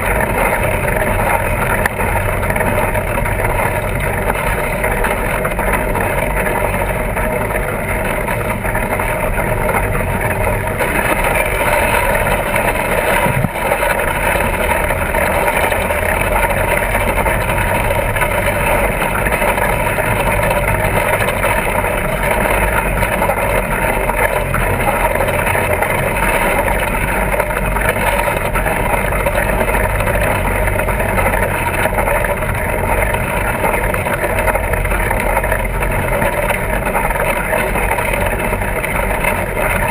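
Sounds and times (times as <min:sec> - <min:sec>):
bike tyres rolling drone: 0:00.0 - 0:39.9.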